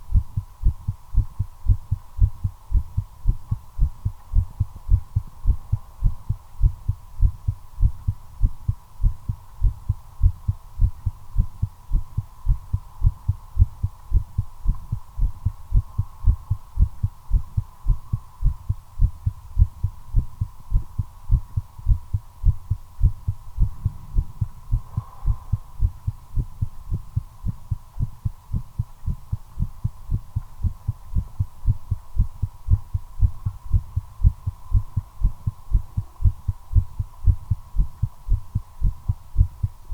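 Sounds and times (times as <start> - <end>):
faint steady hum: 0.0 - 39.9
heartbeat thuds: 0.0 - 39.9.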